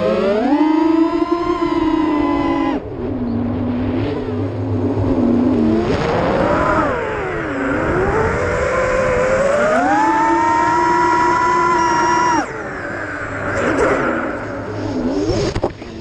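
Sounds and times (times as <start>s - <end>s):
quadcopter motors whining: 0.0s - 4.6s, 6.4s - 16.0s.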